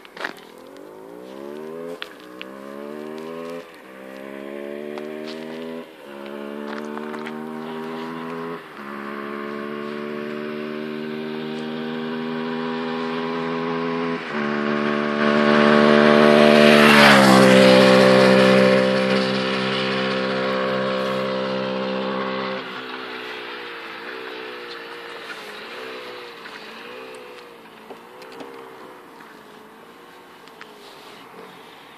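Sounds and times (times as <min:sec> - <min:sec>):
motorcycle engine passing by: 0:00.0 - 0:31.9.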